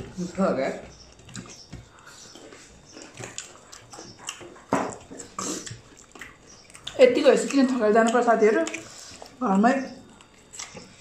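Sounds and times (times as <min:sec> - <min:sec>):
wet chewing and lip smacks: 0:01.0 - 0:11.0
crunchy squishy eating bursts: 0:01.1 - 0:11.0.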